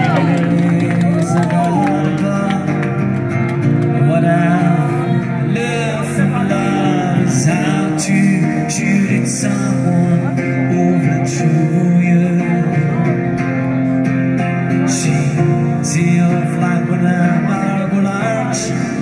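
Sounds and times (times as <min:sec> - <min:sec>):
person singing: 0:00.0 - 0:03.2, 0:03.8 - 0:14.0, 0:14.7 - 0:19.0
amplified guitar chords: 0:00.0 - 0:19.0.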